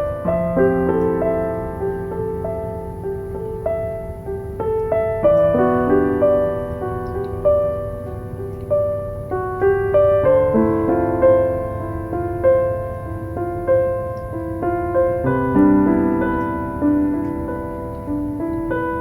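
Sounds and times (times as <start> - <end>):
gentle solo piano: 0.0 - 19.0
low steady noise: 0.0 - 19.0.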